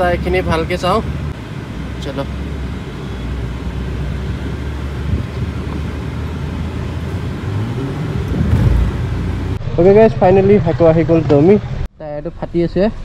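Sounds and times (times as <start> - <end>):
car engine drone: 0.0 - 13.0
road noise inside car: 0.0 - 13.0.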